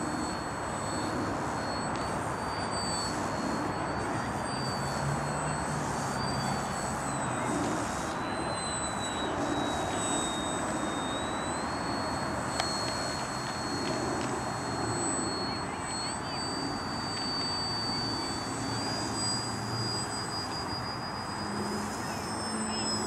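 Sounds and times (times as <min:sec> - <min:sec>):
model plane propeller whine: 0:00.0 - 0:23.0.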